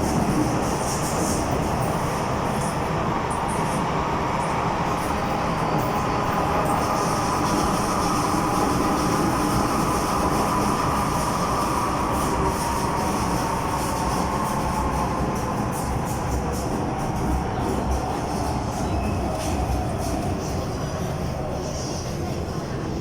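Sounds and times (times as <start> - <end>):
train rail and running noise: 0.0 - 23.0.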